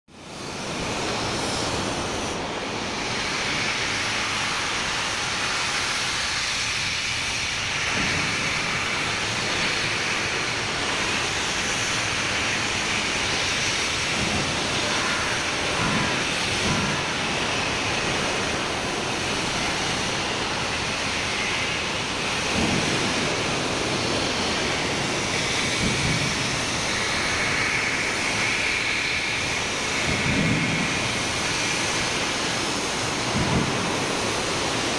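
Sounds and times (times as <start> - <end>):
steam locomotive hissing: 0.1 - 34.9.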